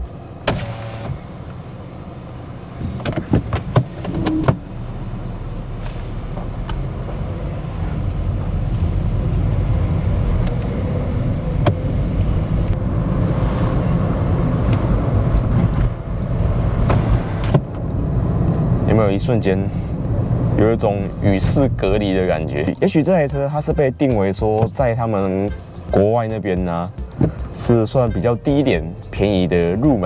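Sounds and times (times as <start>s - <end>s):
muffled car engine and road rumble: 0.0s - 30.0s.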